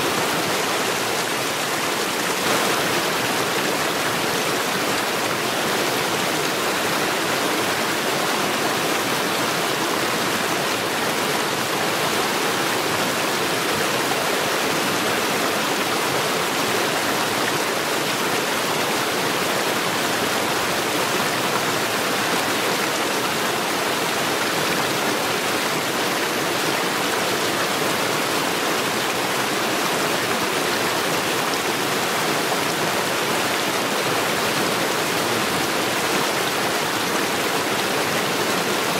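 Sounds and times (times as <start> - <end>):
stream rushing over stones: 0.0 - 38.9.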